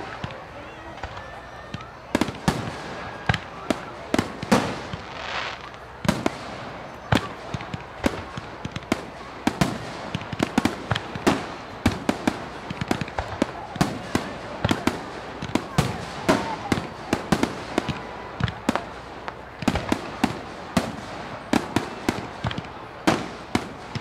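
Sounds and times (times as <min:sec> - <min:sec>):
fireworks bangs and pops: 0:00.0 - 0:24.0
fireworks crackling hiss: 0:00.0 - 0:24.0.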